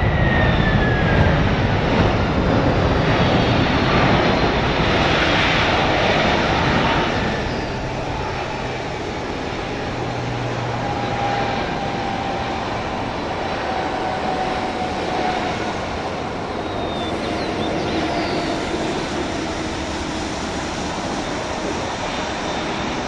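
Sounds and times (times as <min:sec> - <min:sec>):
jet engines and tyres rushing: 0:00.0 - 0:23.0.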